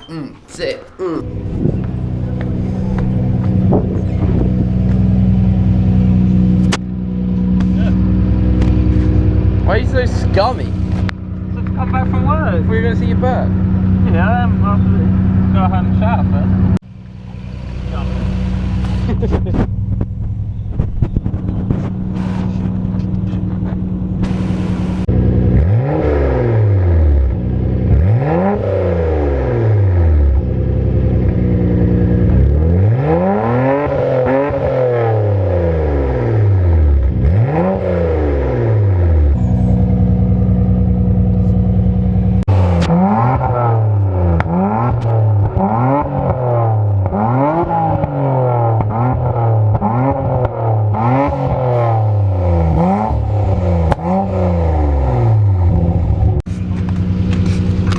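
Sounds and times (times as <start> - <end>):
car engine idling and revving: 1.2 - 57.9.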